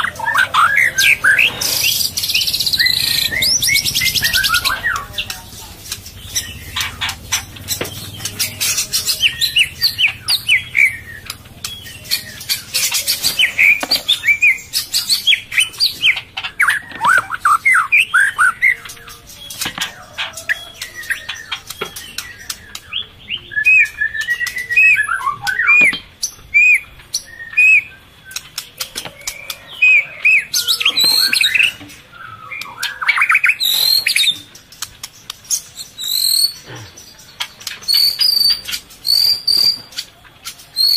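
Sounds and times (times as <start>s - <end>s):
bird chirping and whistling: 0.0s - 34.5s, 35.4s - 36.6s, 37.6s - 40.9s.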